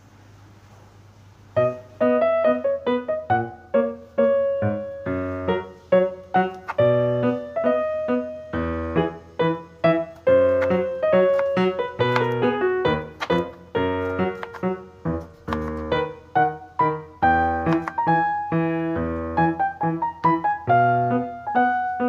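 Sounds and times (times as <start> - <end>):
piano music: 1.5 - 22.0.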